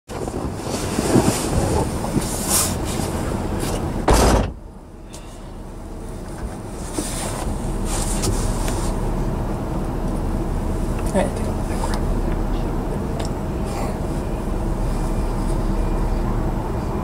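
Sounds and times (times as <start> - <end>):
train rumbling on rails: 0.1 - 17.0.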